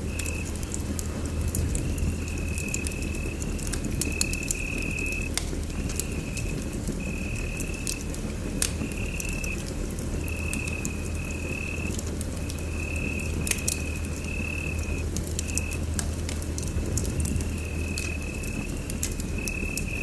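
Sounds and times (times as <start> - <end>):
low steady rumble: 0.0 - 20.0
wood fire crackling: 0.0 - 20.0.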